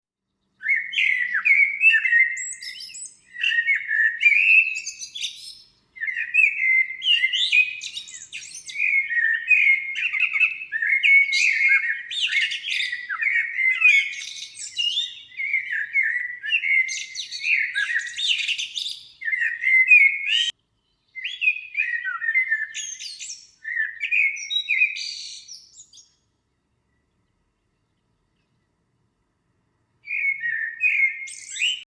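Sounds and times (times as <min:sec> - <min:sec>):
songbird chirping: 0:00.3 - 0:31.9.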